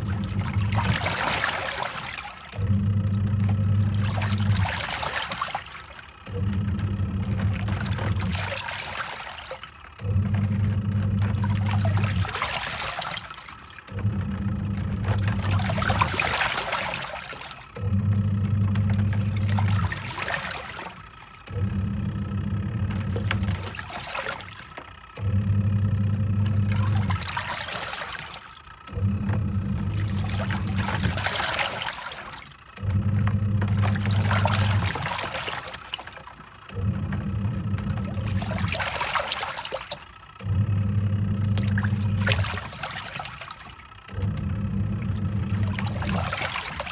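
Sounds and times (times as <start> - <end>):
washing machine motor humming: 0.0 - 46.9
water sloshing in tub: 0.0 - 46.9.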